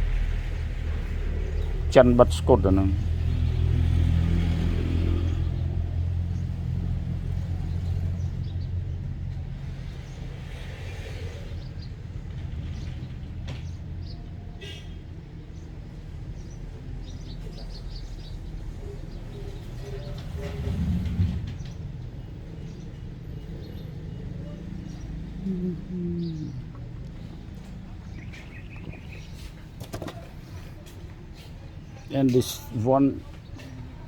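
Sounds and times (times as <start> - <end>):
faint traffic rumble: 0.0 - 34.0
motor vehicle rumble: 0.0 - 34.0.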